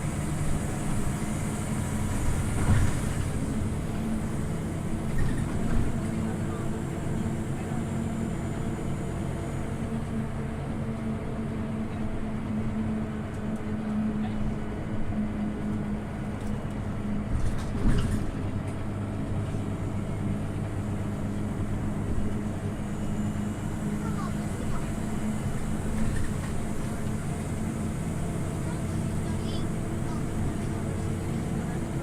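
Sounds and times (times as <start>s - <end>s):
bus engine humming: 0.0s - 32.0s.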